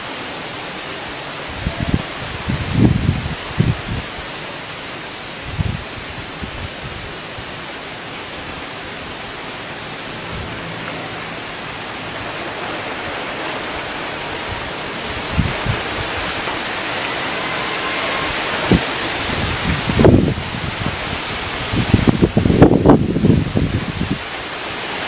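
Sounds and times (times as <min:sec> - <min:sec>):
heavy rain pouring: 0:00.0 - 0:25.0
wind gusting on microphone: 0:01.0 - 0:25.0.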